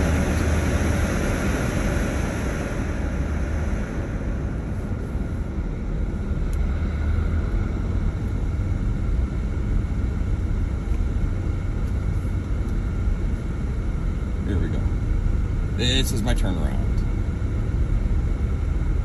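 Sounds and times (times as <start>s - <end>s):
engine low rumble: 0.0s - 19.0s
steady rushing noise: 0.0s - 19.0s.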